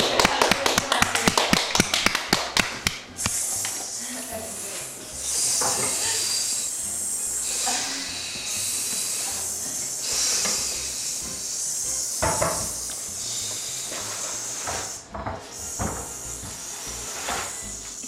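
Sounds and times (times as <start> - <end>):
high-pitched hiss: 3.1 - 18.0.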